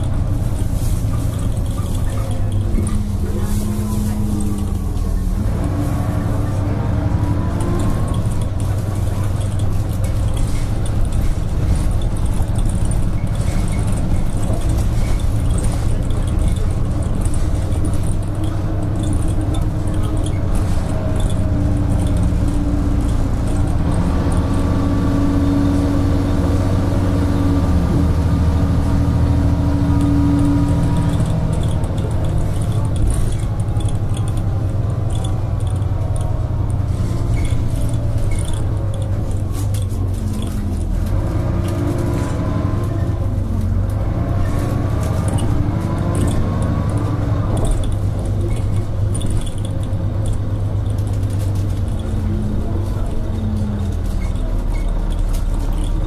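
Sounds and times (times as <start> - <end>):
bus body rattling: 0.0 - 56.0
bus diesel engine drone with whine: 0.0 - 56.0.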